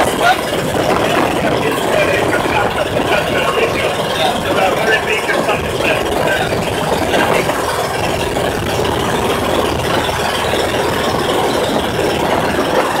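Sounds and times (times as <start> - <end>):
boat engine running: 0.0 - 13.0
wind and water rushing: 0.0 - 13.0.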